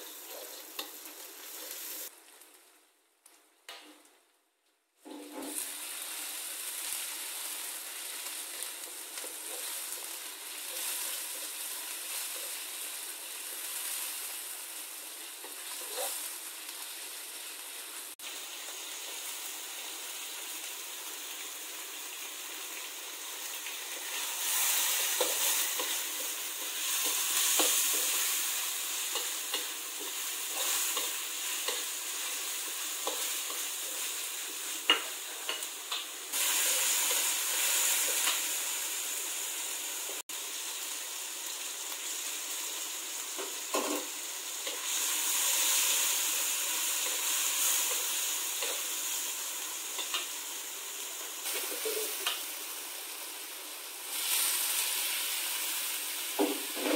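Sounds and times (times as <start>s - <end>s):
food sizzling in hot oil: 0.0s - 3.0s, 5.0s - 56.9s.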